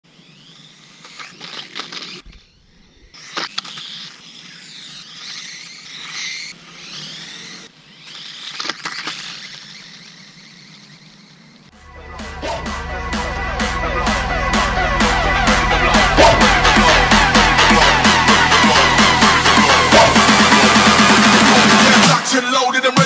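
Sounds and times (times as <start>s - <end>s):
small electric motor whining: 0.0s - 11.9s, 14.5s - 22.2s.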